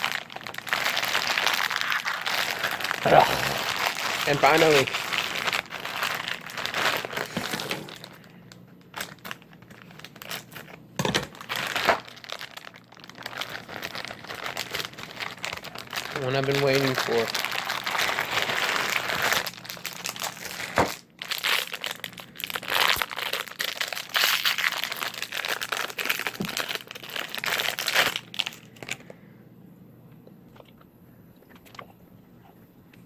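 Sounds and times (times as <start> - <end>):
plastic wrapper crinkling: 0.0 - 29.2.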